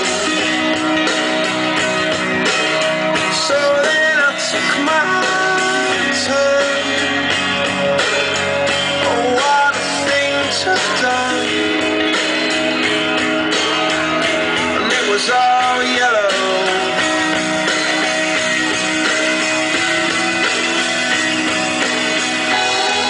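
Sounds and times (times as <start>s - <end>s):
song with guitar and singing: 0.0s - 23.0s.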